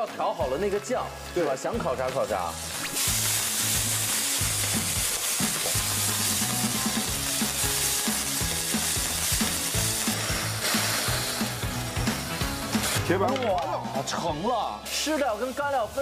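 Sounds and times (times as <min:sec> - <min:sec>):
meat sizzling on a griddle: 0:00.0 - 0:16.0.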